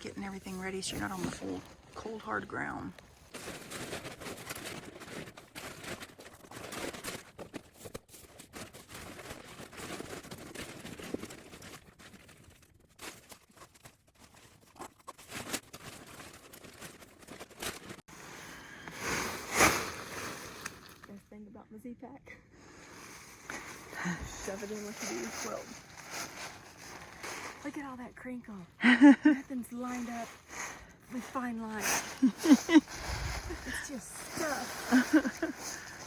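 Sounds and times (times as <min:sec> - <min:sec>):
tent fabric rustling and crinkling: 0:00.0 - 0:21.2, 0:22.7 - 0:36.0.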